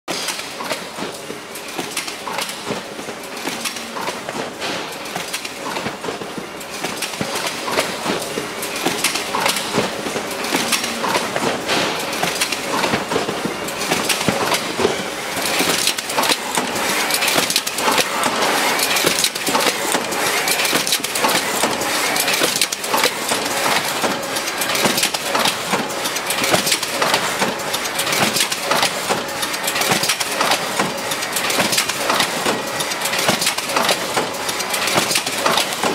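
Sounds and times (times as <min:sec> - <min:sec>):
packaging machine clattering: 0:00.1 - 0:35.9.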